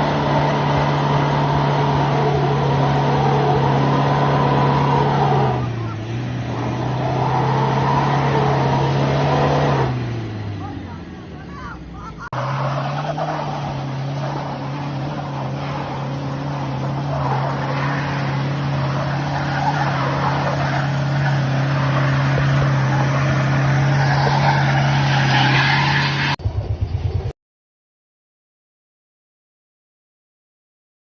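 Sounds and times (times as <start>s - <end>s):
vehicle engine hum: 0.0s - 27.3s.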